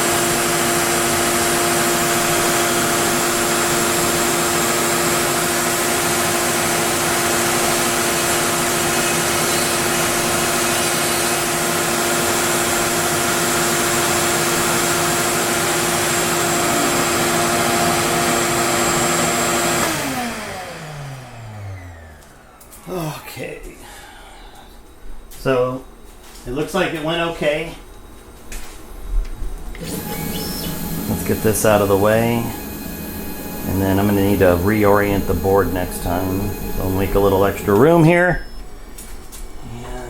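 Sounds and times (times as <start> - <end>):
cnc router whining: 0.0 - 22.9, 29.7 - 40.0.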